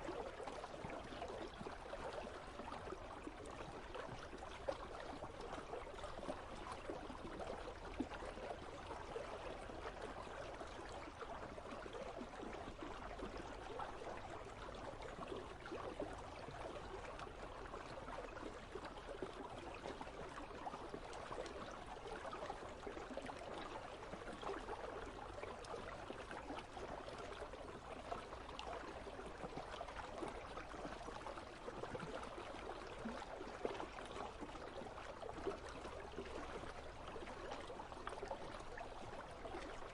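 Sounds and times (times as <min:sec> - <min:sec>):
faint ticks and splashes: 0:00.0 - 0:39.9.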